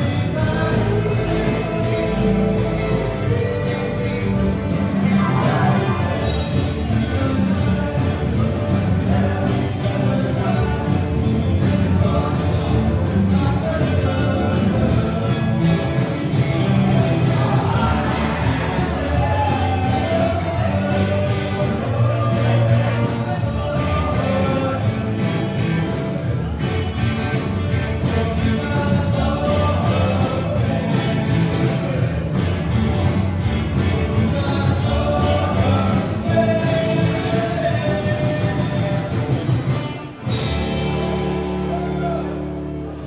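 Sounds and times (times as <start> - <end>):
steady drum beat: 0.0 - 41.5
live rock and roll band: 0.0 - 43.0
person singing: 0.0 - 43.0.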